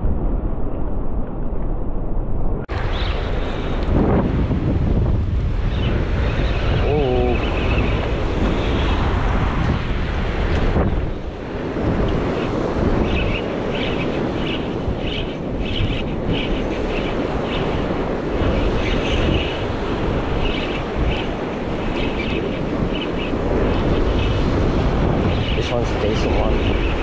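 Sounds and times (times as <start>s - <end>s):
wind buffeting microphone: 0.0s - 27.0s
surf washing on sand: 2.7s - 27.0s.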